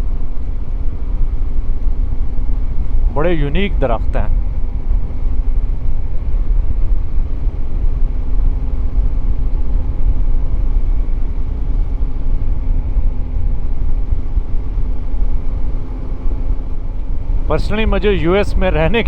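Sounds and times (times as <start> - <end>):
wind and road rumble: 0.0 - 19.0.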